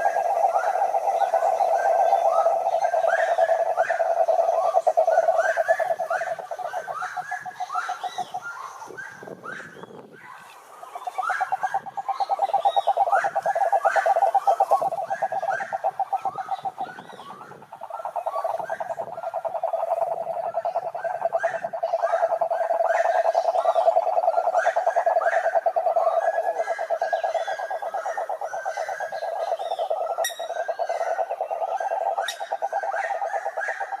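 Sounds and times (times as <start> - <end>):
frogs pulsing trill: 0.0 - 10.1, 10.8 - 34.0
frogs short rising calls: 0.0 - 34.0.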